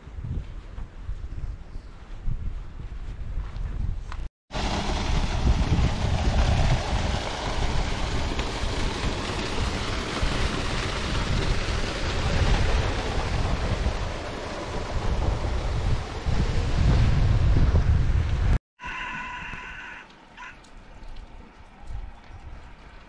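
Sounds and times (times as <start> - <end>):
wind buffeting microphone: 0.0 - 18.6, 21.0 - 23.0.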